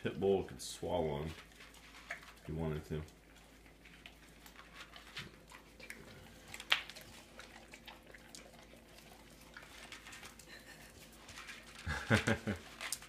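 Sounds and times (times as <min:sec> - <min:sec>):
animals chewing food from bowl: 0:00.1 - 0:13.0.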